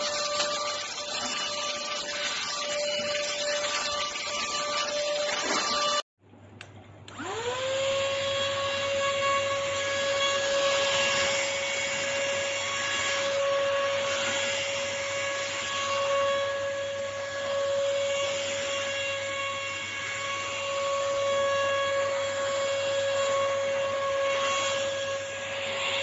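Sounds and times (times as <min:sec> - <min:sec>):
stick vacuum cleaner running: 0:00.0 - 0:06.0, 0:07.1 - 0:26.0.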